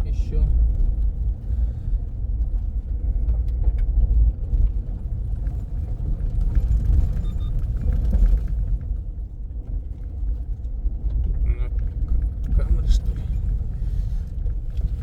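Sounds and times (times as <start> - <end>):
car road noise and engine: 0.0 - 15.0
faint rattles and clicks: 0.0 - 15.0.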